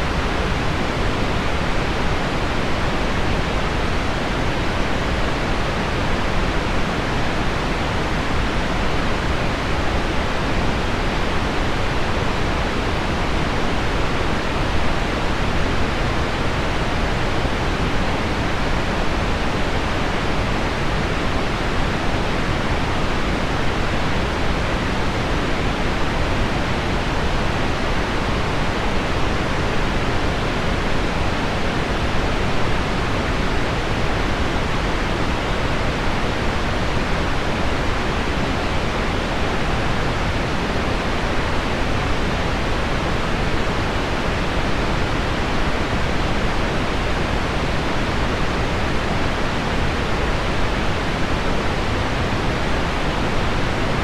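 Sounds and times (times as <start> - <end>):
low pink noise: 0.0 - 54.0.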